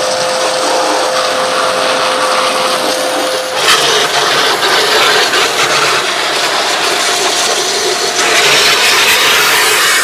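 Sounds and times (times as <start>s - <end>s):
pressure washer motor hum: 0.0s - 10.0s
water spray hissing on metal: 0.3s - 10.0s.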